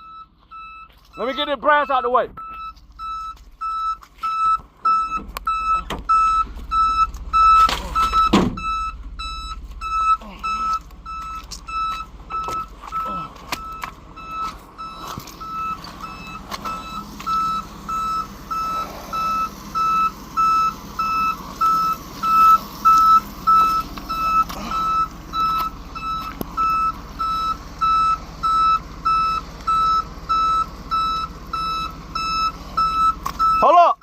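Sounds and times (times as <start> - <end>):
back-up alarm beeping: 0.0 - 34.0
low rumble: 2.3 - 33.4.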